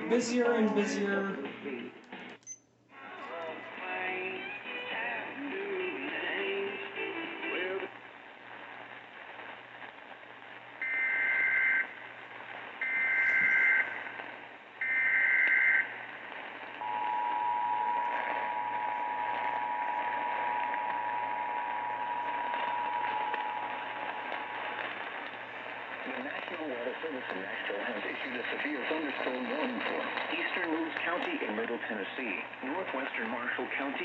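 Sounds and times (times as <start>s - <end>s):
radio hiss: 0.0s - 2.4s, 3.0s - 34.0s.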